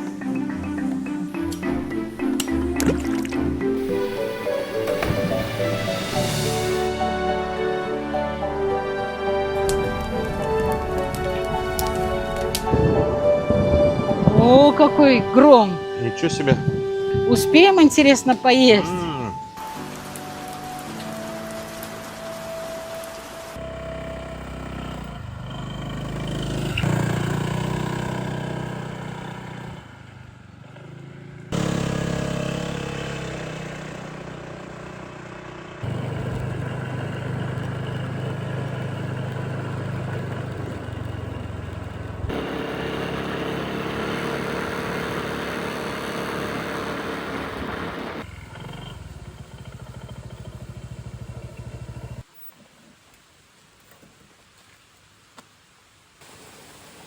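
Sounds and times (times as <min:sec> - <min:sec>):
motor engine running: 0:00.0 - 0:21.7, 0:23.6 - 0:52.3.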